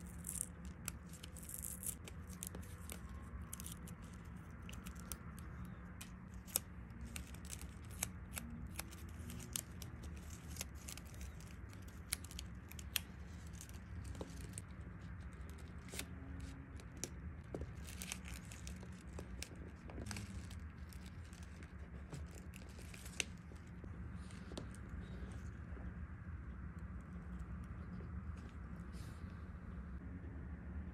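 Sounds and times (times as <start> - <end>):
crinkling: 0.0 - 29.3
low hum: 0.0 - 30.9.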